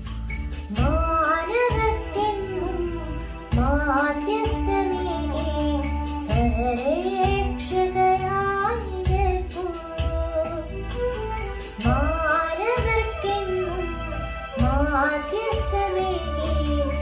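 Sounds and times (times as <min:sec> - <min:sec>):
instrumental accompaniment: 0:00.0 - 0:17.0
girl singing: 0:00.7 - 0:17.0.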